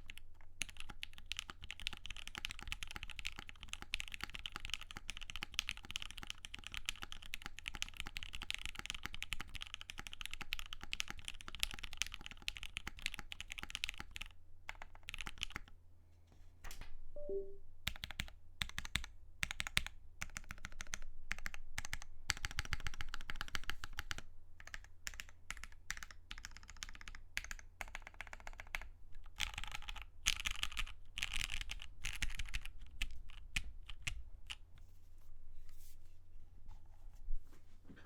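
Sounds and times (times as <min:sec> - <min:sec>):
mechanical keyboard typing: 0:00.0 - 0:15.7, 0:17.2 - 0:34.6.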